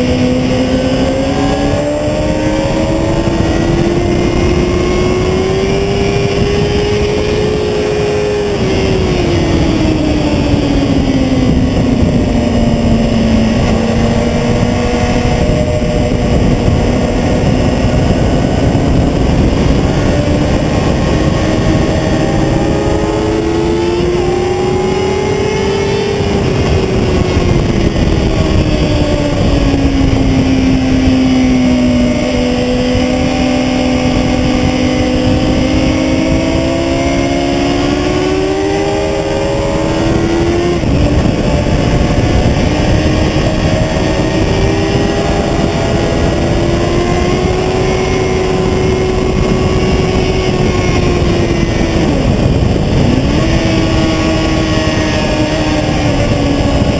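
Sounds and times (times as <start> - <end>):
motorcycle engine revving: 0.0 - 56.9
wind and road noise: 0.0 - 56.9.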